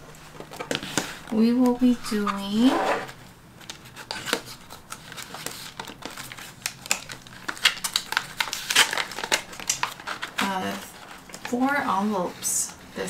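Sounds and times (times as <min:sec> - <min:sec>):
plastic envelopes rustling and clicking: 0:00.0 - 0:12.8.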